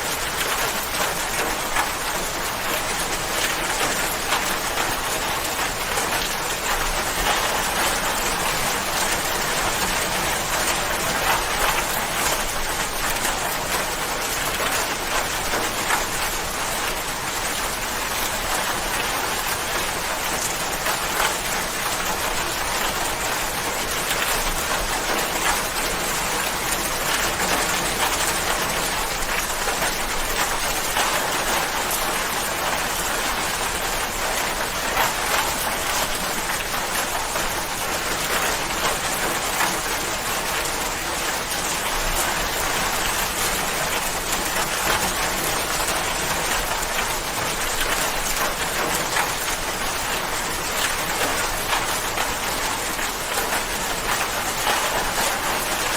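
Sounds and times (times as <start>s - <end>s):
rain patter: 0.0s - 55.9s.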